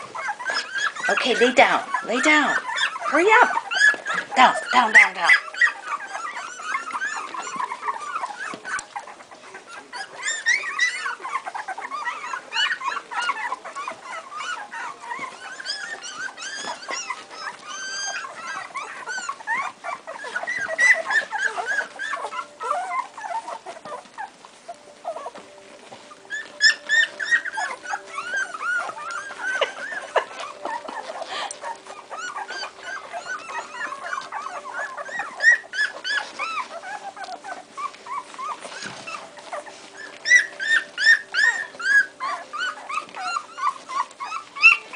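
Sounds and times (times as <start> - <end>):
puppies whimpering and squeaking: 0.0 - 44.9.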